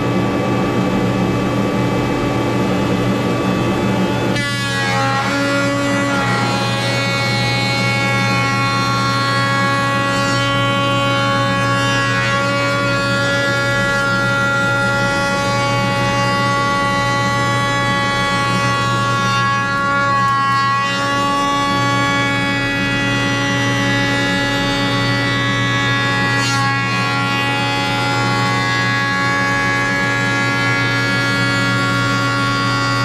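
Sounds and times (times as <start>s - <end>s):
jointer and dust collector whine: 0.0s - 33.0s.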